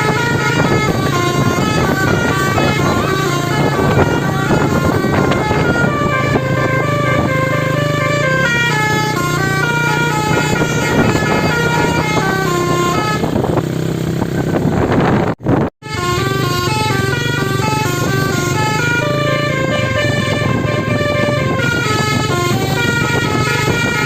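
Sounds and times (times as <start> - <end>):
musical air horn melody: 0.0 - 13.5, 15.8 - 24.0.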